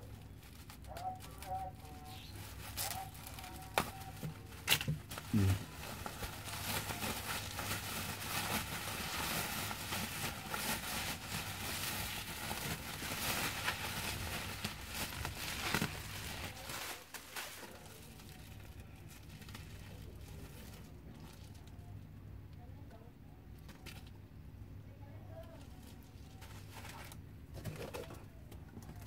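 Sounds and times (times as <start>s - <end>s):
bubble wrap crinkling: 0.0s - 21.9s, 25.3s - 28.2s.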